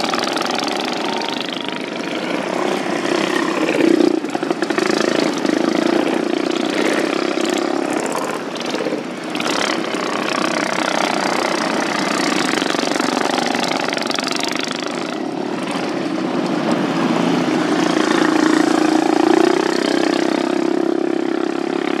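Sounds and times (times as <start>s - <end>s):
racing lawn mower engines: 0.0s - 22.0s.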